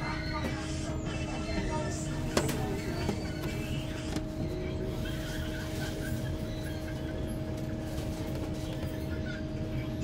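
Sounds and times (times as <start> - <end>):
bus drivetrain rumble: 0.0 - 10.0.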